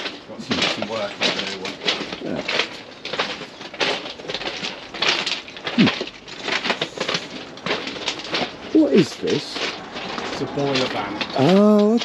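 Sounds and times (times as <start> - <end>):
footsteps crunching on gravel: 0.0 - 12.0.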